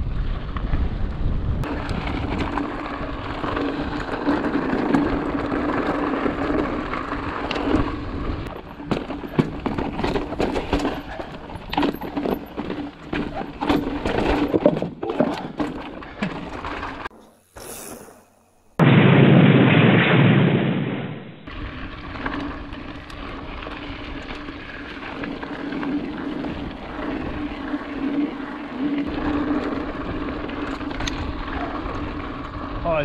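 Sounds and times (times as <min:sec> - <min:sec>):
bike tyre riding noise: 0:00.0 - 0:18.8, 0:21.4 - 0:33.0
bike rattling and knocking: 0:01.6 - 0:17.2, 0:21.5 - 0:33.0.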